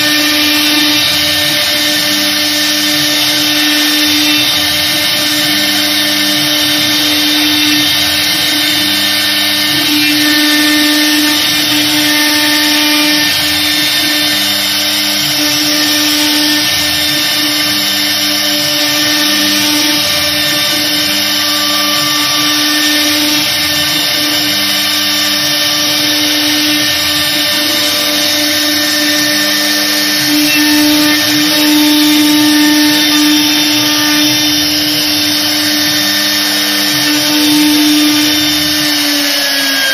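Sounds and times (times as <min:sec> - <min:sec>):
low motor tones: 0:00.0 - 0:39.0
router spindle whine: 0:00.0 - 0:39.9.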